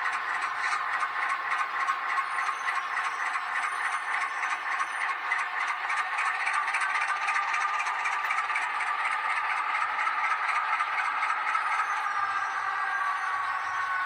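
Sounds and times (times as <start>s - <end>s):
model train motor hum: 0.0s - 14.0s.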